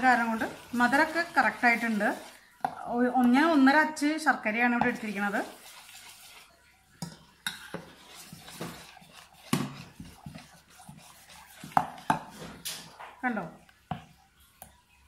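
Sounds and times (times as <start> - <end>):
metal spoon stirring in steel bowl: 0.0 - 3.6, 4.6 - 14.2.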